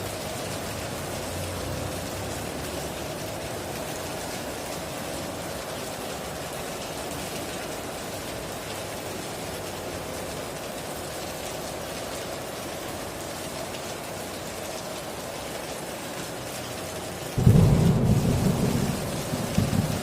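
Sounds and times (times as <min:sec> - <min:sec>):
heavy rain on a tin roof: 0:00.0 - 0:20.0.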